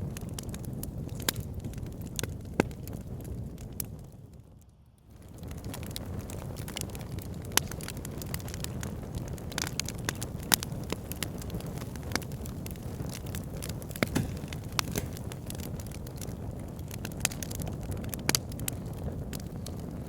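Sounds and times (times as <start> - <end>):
fire rumbling: 0.0 - 20.0
wood crackling and popping: 0.0 - 20.0.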